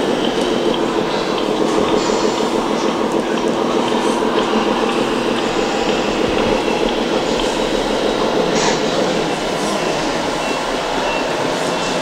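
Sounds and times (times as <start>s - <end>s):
busy hall noise: 0.0s - 12.0s.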